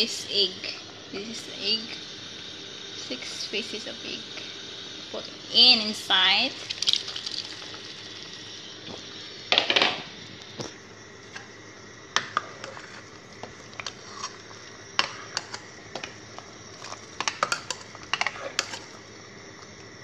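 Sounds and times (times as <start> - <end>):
broth bubbling in a pot: 0.0 - 20.0.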